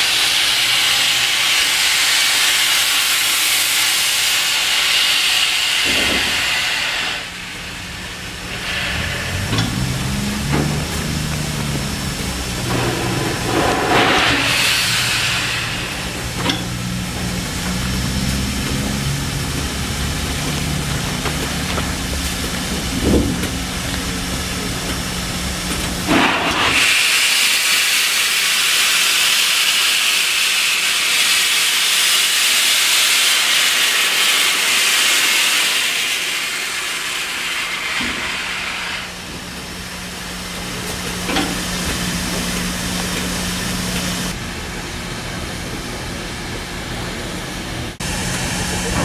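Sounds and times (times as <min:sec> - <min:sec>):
steam locomotive venting steam: 0:00.0 - 0:49.0.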